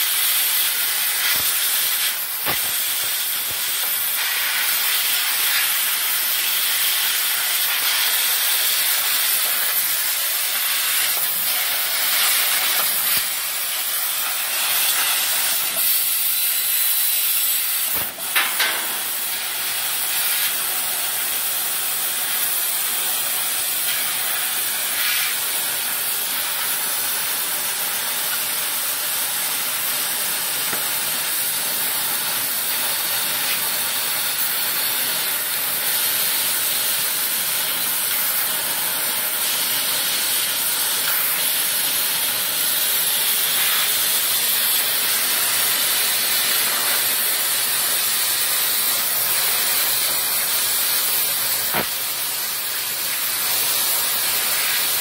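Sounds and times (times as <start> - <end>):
laser cutter hissing: 0.0 - 55.0.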